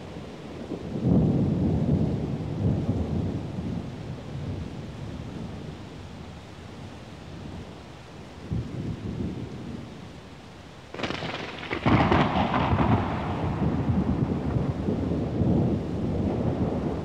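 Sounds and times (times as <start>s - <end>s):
thunder rumbling: 0.0s - 10.2s, 10.9s - 17.0s
steady rain: 0.0s - 17.0s.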